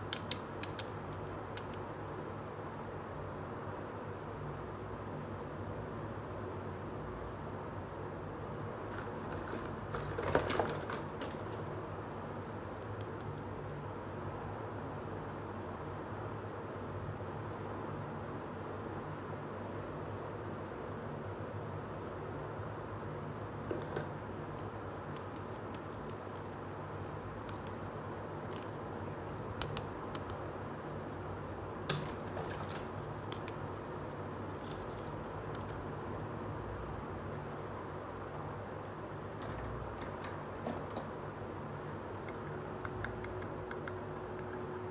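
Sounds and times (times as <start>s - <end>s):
low background hum: 0.0s - 44.9s.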